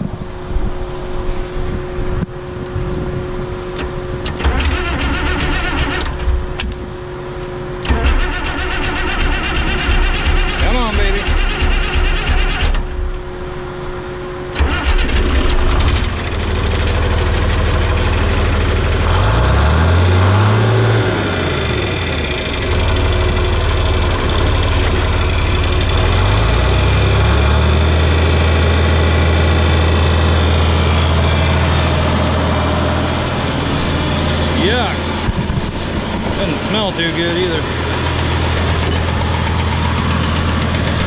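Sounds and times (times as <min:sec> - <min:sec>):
tractor engine starting and running: 0:03.4 - 0:41.0.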